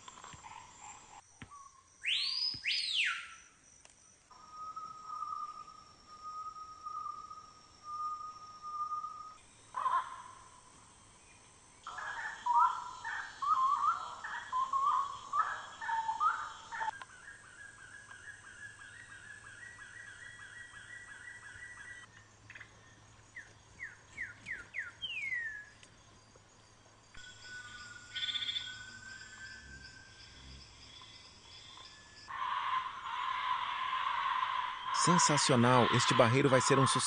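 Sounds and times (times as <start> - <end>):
wild birds warbling calls: 4.3 - 10.7, 11.8 - 25.7, 27.2 - 37.0.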